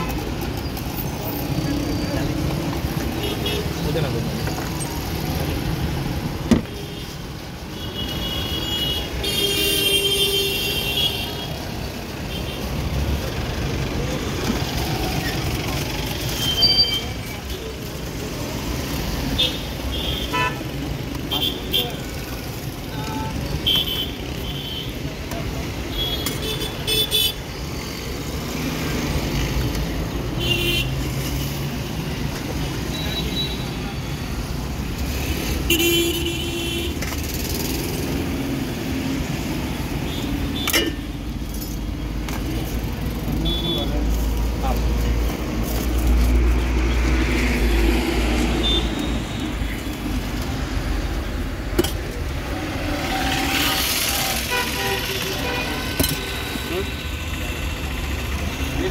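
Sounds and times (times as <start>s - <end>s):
passing vehicles: 0.0s - 58.9s
roadside traffic noise: 0.0s - 58.9s.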